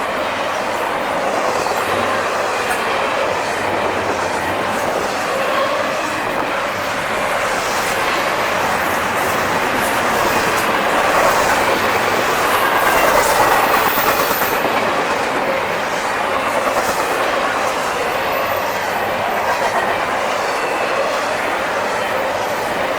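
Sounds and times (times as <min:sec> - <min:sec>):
steel wheels rumbling on rails: 0:00.0 - 0:22.9
high wheel squeal: 0:01.3 - 0:22.9.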